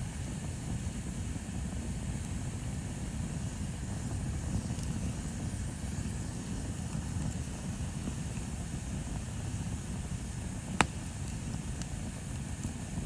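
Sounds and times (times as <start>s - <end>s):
bonfire rumbling: 0.0s - 13.0s
faint fire crackles: 0.0s - 13.0s.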